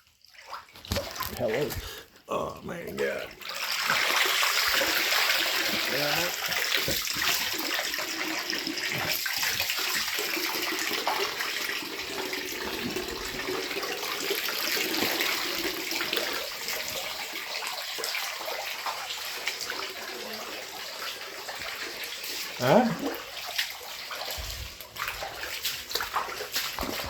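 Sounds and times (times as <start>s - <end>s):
water pouring and splashing: 0.0s - 27.0s.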